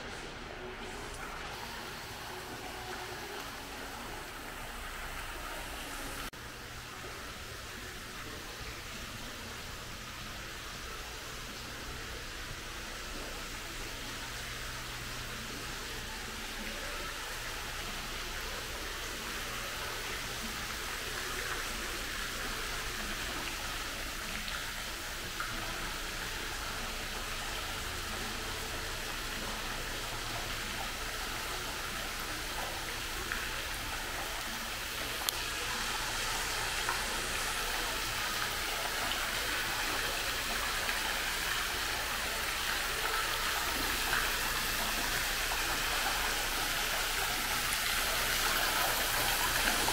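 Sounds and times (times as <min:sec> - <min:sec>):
fountain water splashing: 0:07.0 - 0:49.9.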